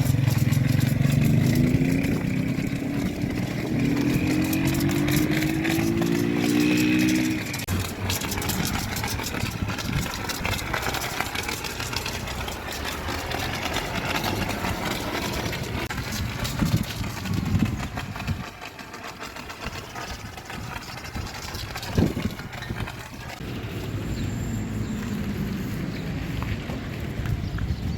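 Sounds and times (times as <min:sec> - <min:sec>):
engine idling: 0:00.0 - 0:25.7.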